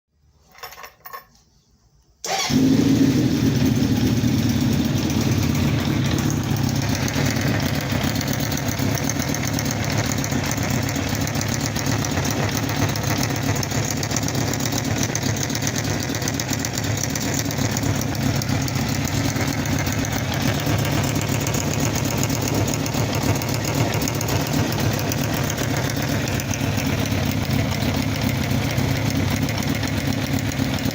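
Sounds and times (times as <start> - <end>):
engine ticking: 2.3 - 30.9
motorcycle engine idling: 2.3 - 30.9.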